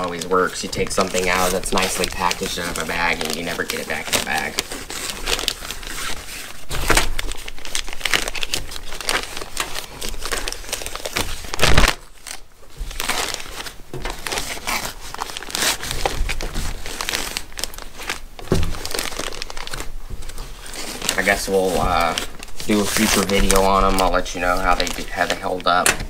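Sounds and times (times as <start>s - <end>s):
plastic bag crinkling and rustling: 0.0s - 26.0s.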